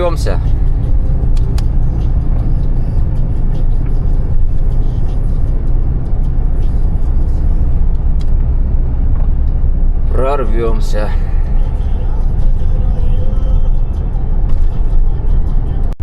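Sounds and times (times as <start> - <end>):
diesel engine rumble: 0.0 - 16.0
tyres on road: 0.0 - 16.0.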